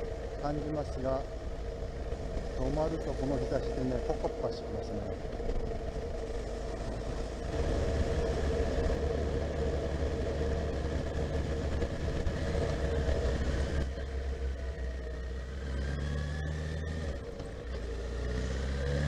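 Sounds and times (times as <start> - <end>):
motorcycle engine idling: 0.0 - 15.4.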